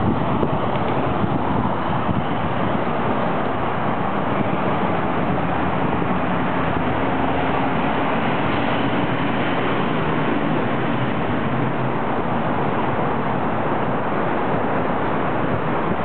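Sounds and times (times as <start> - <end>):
road traffic roar: 0.0 - 16.0
wind on microphone: 0.0 - 16.0.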